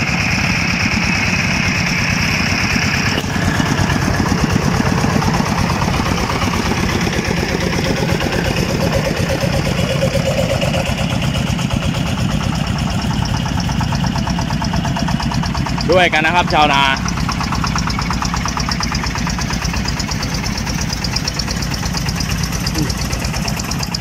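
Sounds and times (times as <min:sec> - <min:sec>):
diesel water pump engines chugging: 0:00.0 - 0:24.0.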